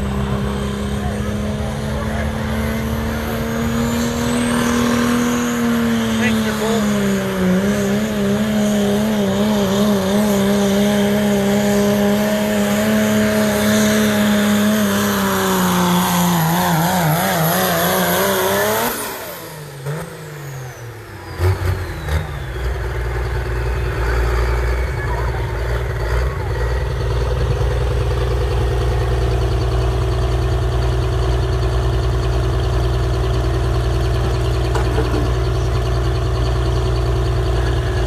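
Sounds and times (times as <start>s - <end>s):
diesel engine at full throttle: 0.0s - 38.0s
engine low rumble: 0.0s - 38.0s.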